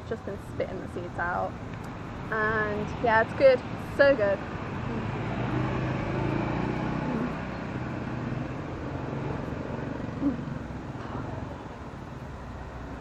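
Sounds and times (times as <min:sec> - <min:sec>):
passing vehicles rumble: 0:00.0 - 0:13.0.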